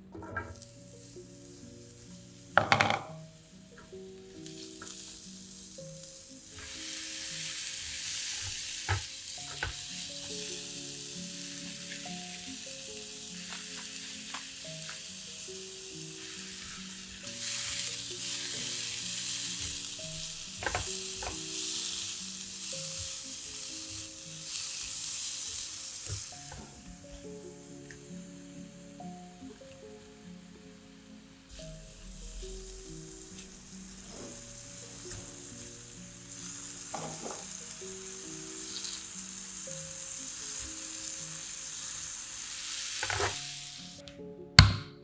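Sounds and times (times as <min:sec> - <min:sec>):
soft background music: 0:00.0 - 0:45.0
mushrooms sizzling in a frying pan: 0:00.5 - 0:44.0.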